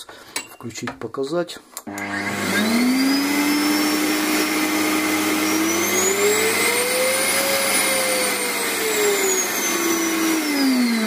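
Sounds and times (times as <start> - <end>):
vacuum cleaner motor whine: 1.9 - 11.0.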